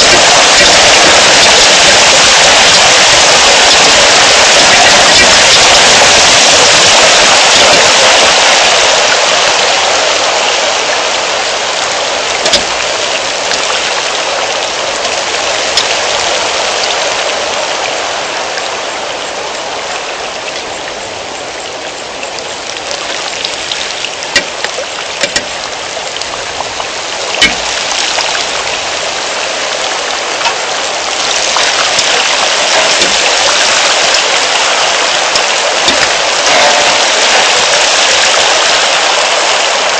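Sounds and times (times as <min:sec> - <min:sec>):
sharp raindrop impacts: 0:00.0 - 0:18.6, 0:20.1 - 0:39.9
rain falling: 0:00.0 - 0:39.9.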